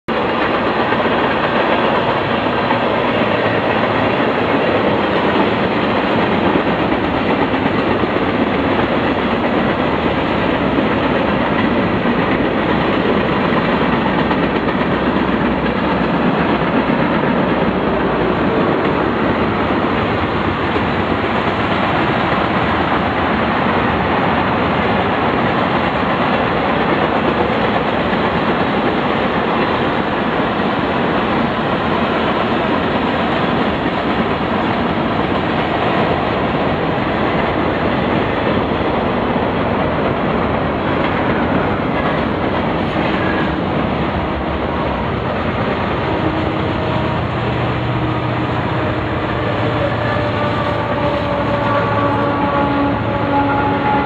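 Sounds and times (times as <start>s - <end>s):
freight train wheels rumbling: 0.1s - 54.0s.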